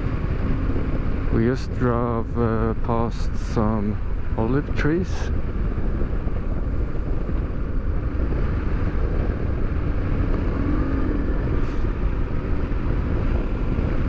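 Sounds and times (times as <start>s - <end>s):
motorcycle engine rumble: 0.0s - 14.0s
wind noise: 0.0s - 14.0s.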